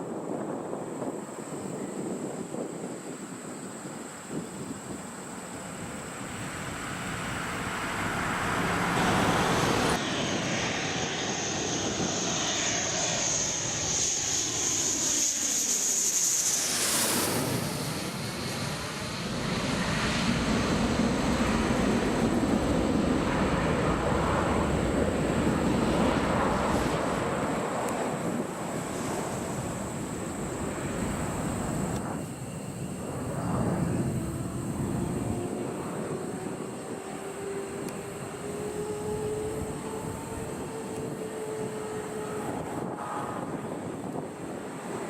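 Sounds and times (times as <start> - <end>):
deep jet rumble: 0.0 - 45.0
jet engine whine: 0.0 - 45.0.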